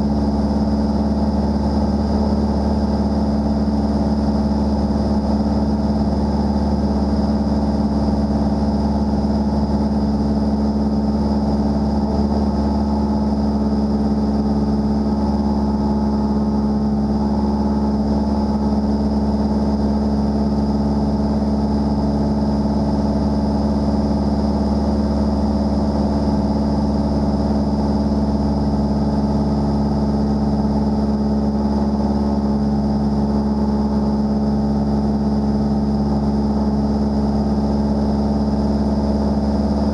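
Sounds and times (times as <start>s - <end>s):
light aircraft engine in flight: 0.0s - 39.9s.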